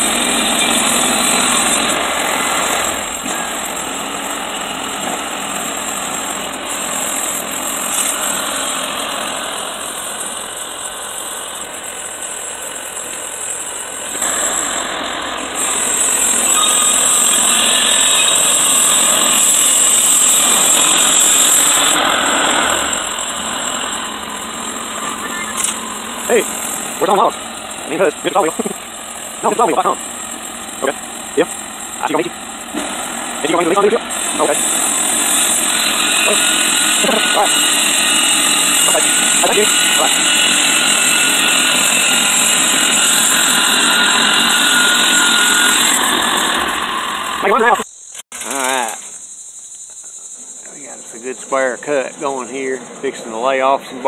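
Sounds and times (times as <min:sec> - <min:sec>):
band saw blade cutting log: 0:00.0 - 0:47.8
engine running: 0:00.0 - 0:49.4, 0:50.0 - 0:54.0.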